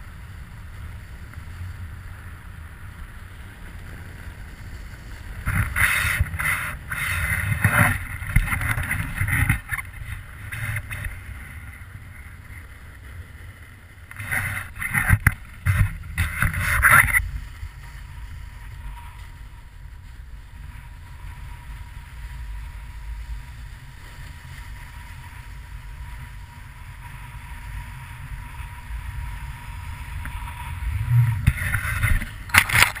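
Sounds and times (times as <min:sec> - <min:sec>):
wind rushing over microphone: 0:00.0 - 0:13.3, 0:13.9 - 0:33.0
snowboard sliding on snow: 0:00.0 - 0:33.0.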